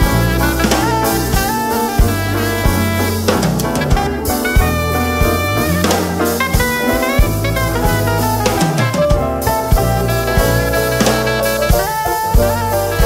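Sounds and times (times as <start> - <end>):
drum kit: 0.0 - 13.0
electric bass: 0.0 - 13.0
saxophone melody: 0.0 - 13.0.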